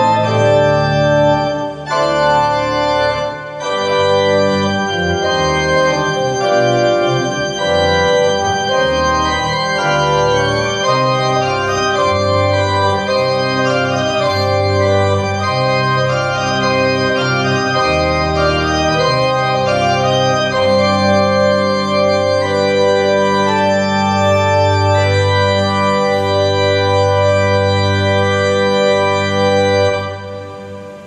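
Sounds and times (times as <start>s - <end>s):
organ playing classical piece: 0.0s - 31.0s.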